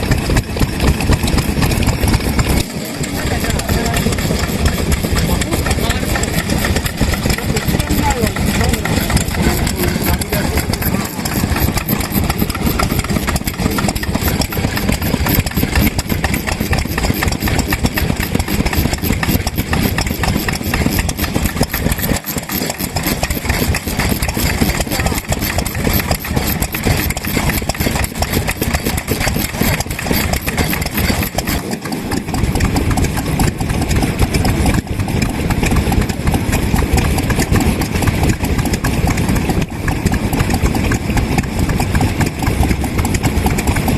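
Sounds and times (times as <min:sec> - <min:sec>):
stationary engines chuffing: 0:00.0 - 0:43.9.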